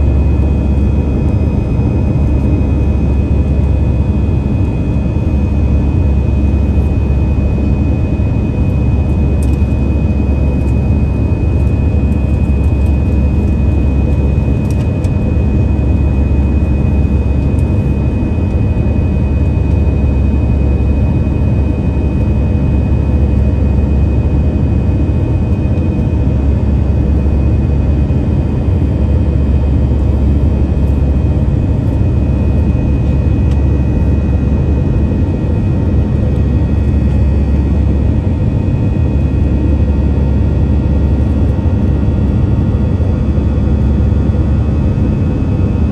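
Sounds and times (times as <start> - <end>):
high engine whine: 0.0 - 45.9
jet engines rumbling in cabin: 0.0 - 45.9.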